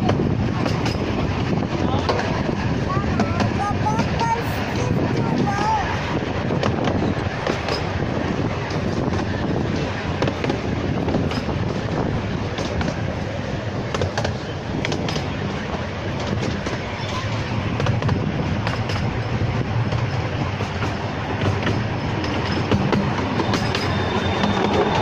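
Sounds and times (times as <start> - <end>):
train wheels rumbling: 0.0 - 25.0
wheels clicking over rails: 0.0 - 25.0.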